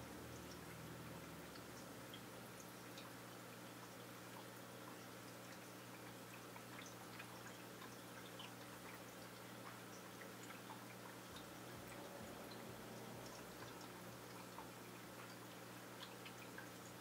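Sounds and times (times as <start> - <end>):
faint ticks: 0.3 - 17.0.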